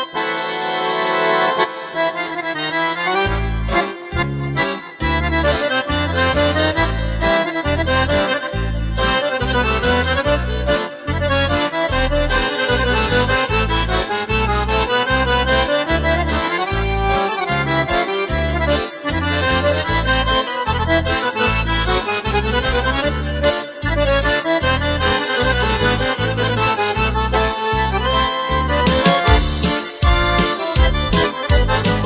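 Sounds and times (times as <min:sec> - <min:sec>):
accordion polka melody: 0:00.0 - 0:32.0
pulsing bass beat: 0:05.1 - 0:32.0.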